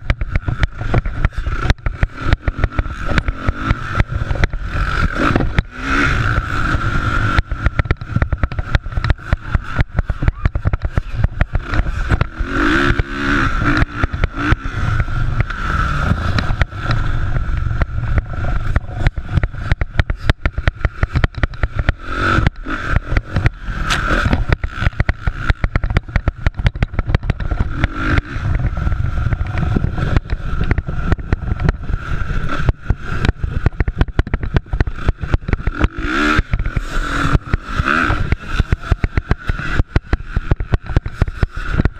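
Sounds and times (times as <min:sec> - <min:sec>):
microphone crackling: 0:00.0 - 0:41.9
motorcycle engines revving: 0:00.0 - 0:41.9.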